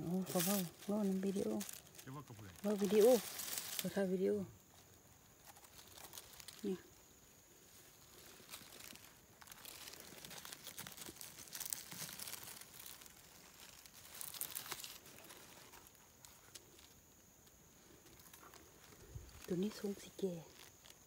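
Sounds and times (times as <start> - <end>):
dry leaves rustling and crackling: 0.0 - 21.0.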